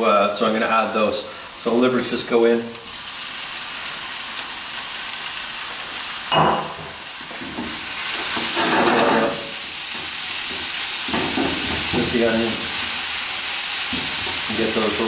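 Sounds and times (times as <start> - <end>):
meat sizzling in frying pan: 0.0 - 15.0.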